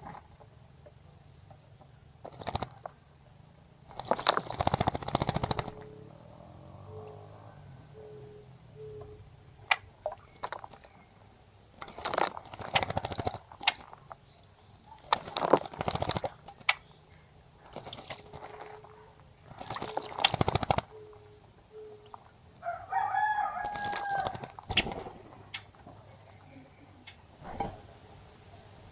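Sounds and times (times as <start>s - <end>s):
birds splashing in water: 2.2s - 2.9s, 3.8s - 28.9s.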